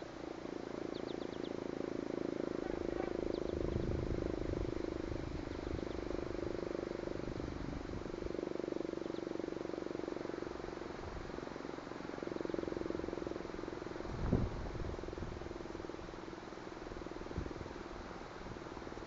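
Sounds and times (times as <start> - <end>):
distorted low rumble: 0.0 - 19.0
fire siren steady low tone: 0.0 - 19.0.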